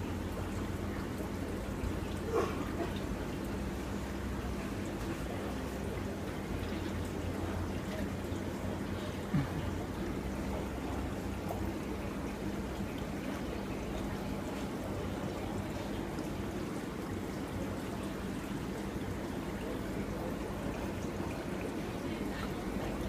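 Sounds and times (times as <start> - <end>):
low pump hum: 0.0 - 23.0
water trickling and splashing: 0.0 - 23.0.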